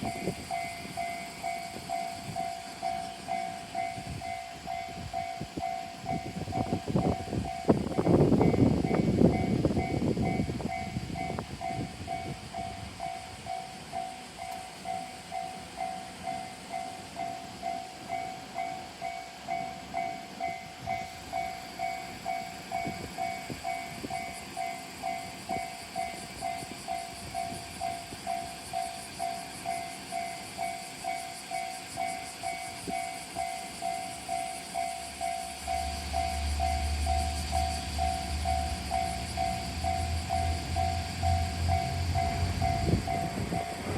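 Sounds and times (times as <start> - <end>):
diesel railcar rumble: 0.0 - 43.9.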